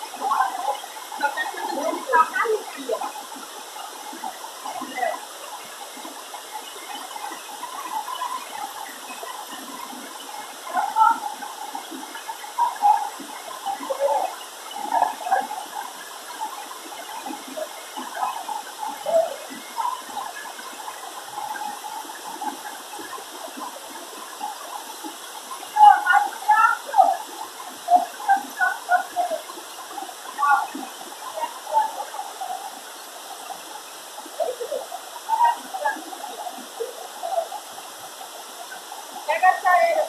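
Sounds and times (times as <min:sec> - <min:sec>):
falling water rushing: 0:00.0 - 0:40.0.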